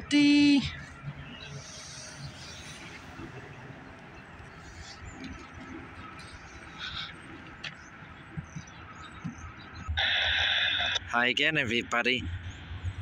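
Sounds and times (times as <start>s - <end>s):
faint outdoor background noise: 0.0s - 13.0s
bird chirps: 0.4s - 10.9s.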